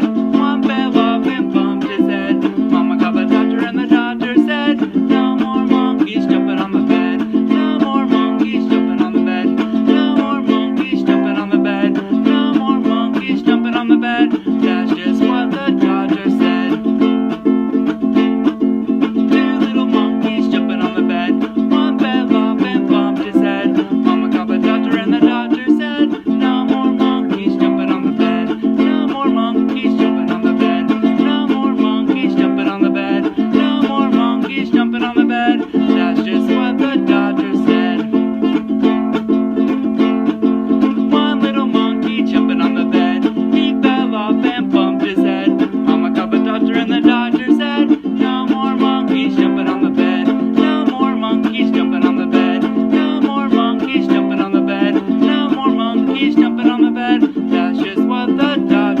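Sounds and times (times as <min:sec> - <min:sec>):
strummed string instrument: 0:00.0 - 0:59.0.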